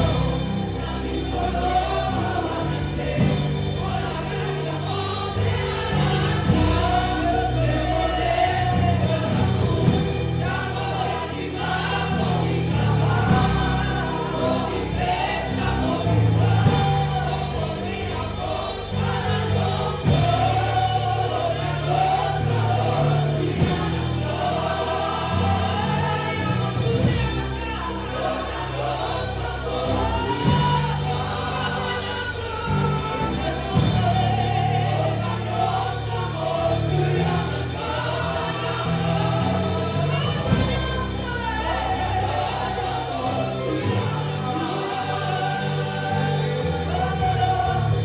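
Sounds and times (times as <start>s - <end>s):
bass guitar: 0.0s - 48.0s
drums: 0.0s - 48.0s
group singing in unison: 0.0s - 48.0s
keyboard: 0.0s - 48.0s.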